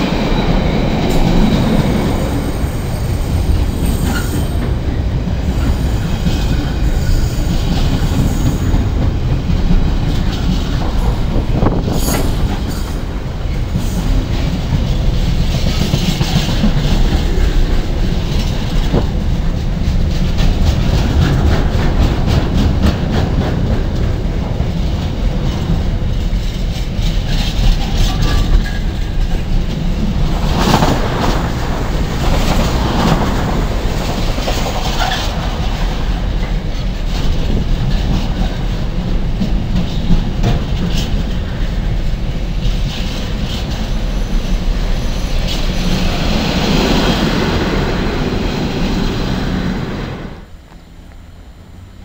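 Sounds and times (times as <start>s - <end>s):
clickety-clack over rail joints: 0.0s - 51.2s
train wheels rumbling on rails: 0.0s - 52.0s.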